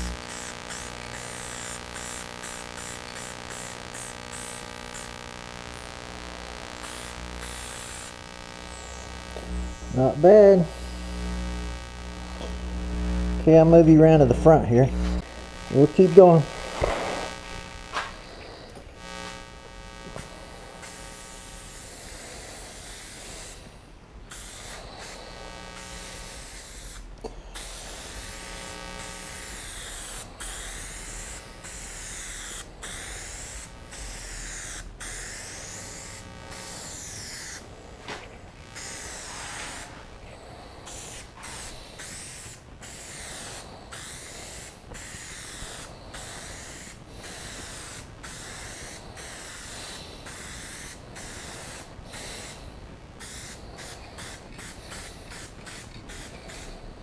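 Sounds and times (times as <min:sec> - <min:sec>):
spray paint can hissing: 0:00.0 - 0:05.8, 0:06.8 - 0:10.1, 0:16.8 - 0:18.3, 0:20.1 - 0:37.6, 0:38.8 - 0:57.0.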